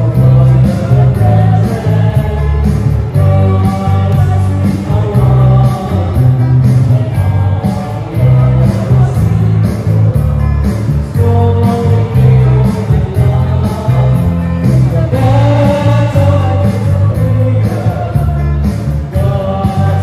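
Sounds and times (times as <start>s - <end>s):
live band playing worship song: 0.0s - 20.0s
loud electric bass guitar: 0.0s - 20.0s
people singing: 0.0s - 20.0s.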